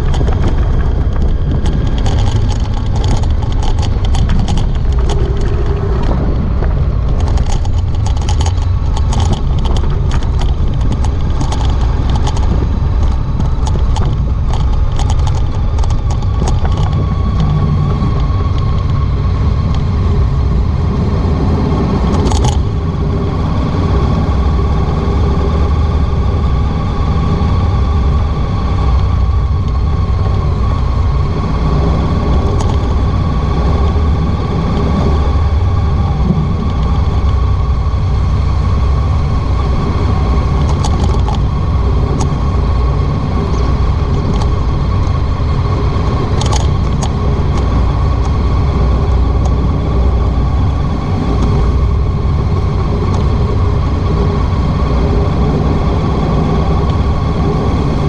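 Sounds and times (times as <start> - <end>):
light clicks or rattles: 0.0 - 20.4, 21.8 - 23.0, 24.4 - 58.0
motorcycle engine running: 0.0 - 58.0
wind and road noise: 0.0 - 58.0.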